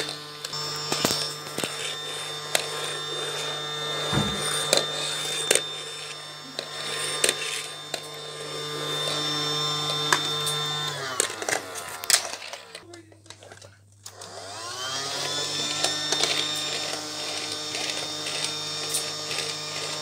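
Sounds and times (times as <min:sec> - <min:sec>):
toy vacuum motor humming: 0:00.0 - 0:20.0.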